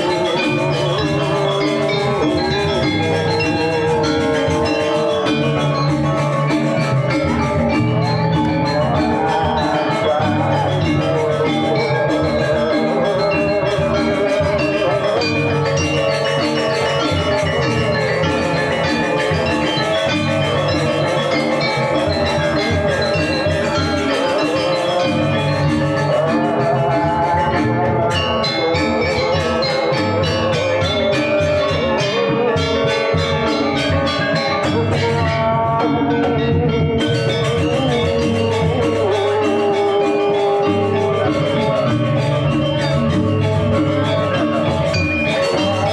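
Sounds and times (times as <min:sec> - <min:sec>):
gamelan music: 0:00.0 - 0:45.9.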